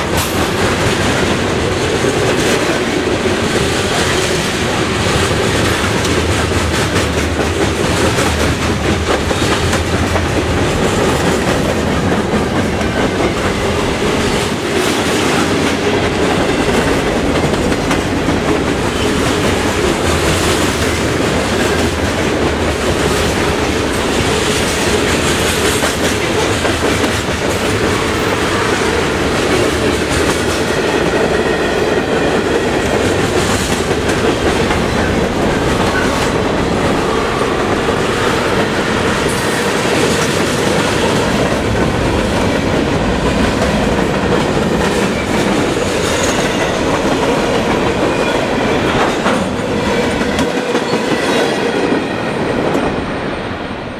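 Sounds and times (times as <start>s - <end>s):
freight train rolling past: 0.0s - 53.9s.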